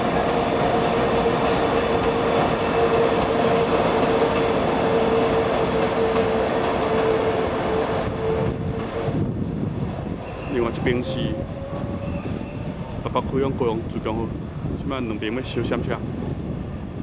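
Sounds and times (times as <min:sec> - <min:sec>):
steady train whine: 0:00.0 - 0:17.0
train rumbling: 0:00.0 - 0:17.0.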